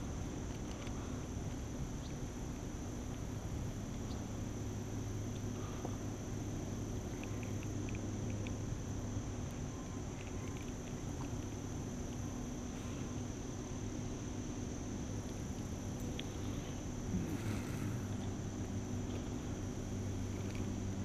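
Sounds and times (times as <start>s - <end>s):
crickets chirring: 0.0s - 21.0s
low steady hum: 0.0s - 21.0s.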